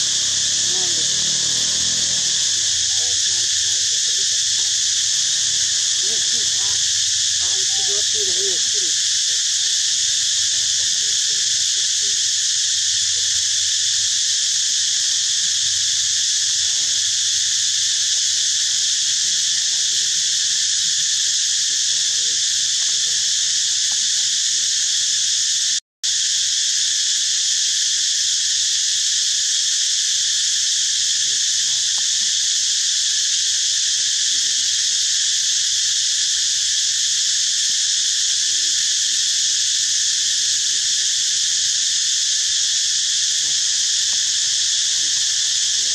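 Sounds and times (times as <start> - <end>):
insect chorus drone: 0.0 - 45.9.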